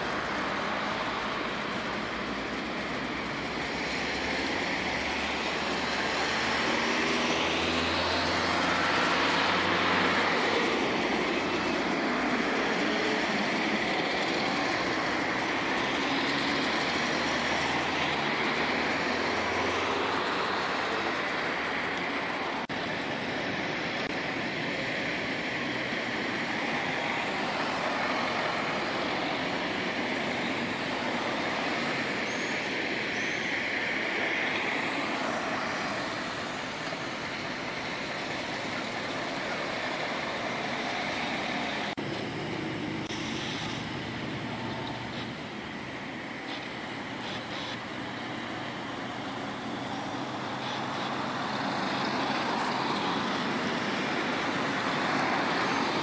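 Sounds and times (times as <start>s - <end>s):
cars passing: 0.0s - 56.0s
tyre and road noise: 0.0s - 56.0s.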